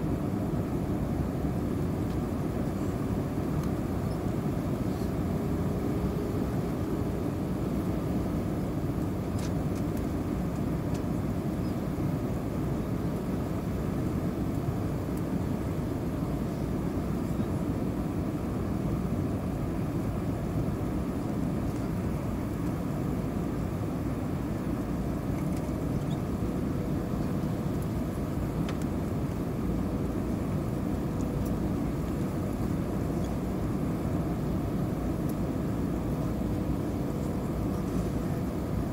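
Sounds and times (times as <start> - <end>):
airplane cabin rumble: 0.0 - 38.9
faint steady hum: 0.0 - 38.9.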